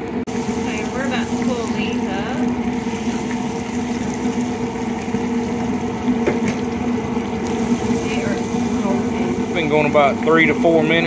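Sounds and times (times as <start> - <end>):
constant hum: 0.0 - 11.0
oil sizzling and bubbling: 0.0 - 11.0.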